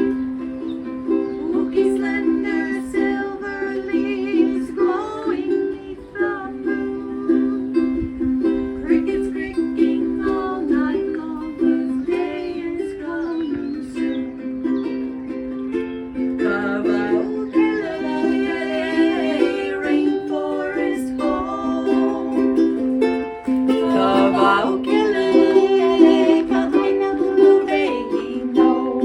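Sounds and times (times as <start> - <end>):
ukulele strumming: 0.0 - 29.0.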